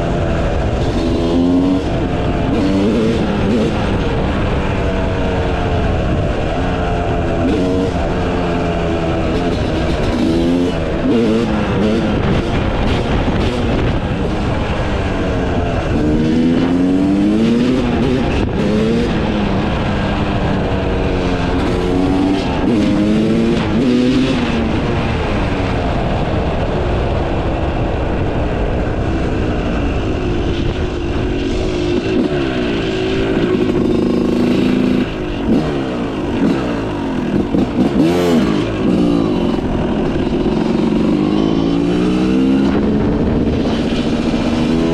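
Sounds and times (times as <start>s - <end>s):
two-stroke motocross engine revving: 0.0s - 25.9s, 30.8s - 44.9s.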